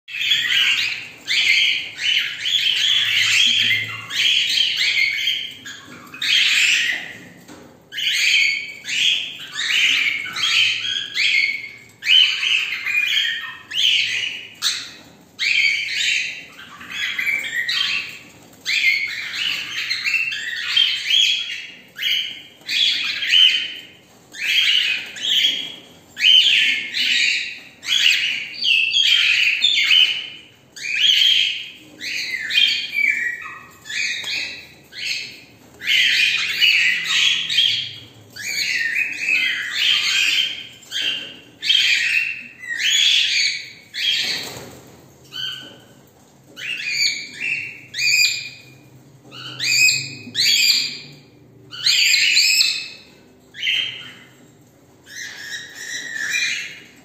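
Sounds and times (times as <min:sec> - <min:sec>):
cockatiels calling and chirping: 0:00.1 - 0:57.0.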